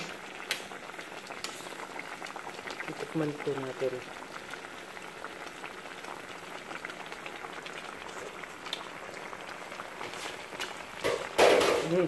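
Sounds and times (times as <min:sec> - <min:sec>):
sauce bubbling in a pot: 0:00.0 - 0:12.0.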